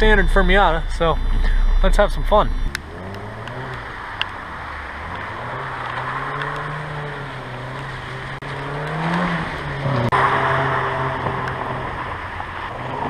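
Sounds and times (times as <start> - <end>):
car engine under throttle: 0.0 - 13.0.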